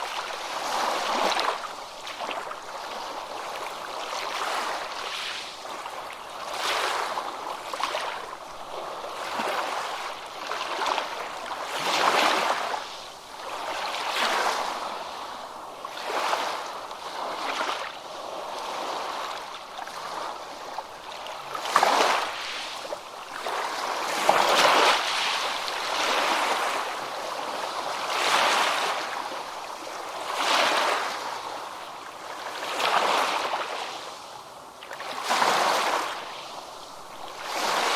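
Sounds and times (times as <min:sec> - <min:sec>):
ocean waves breaking: 0:00.0 - 0:37.9.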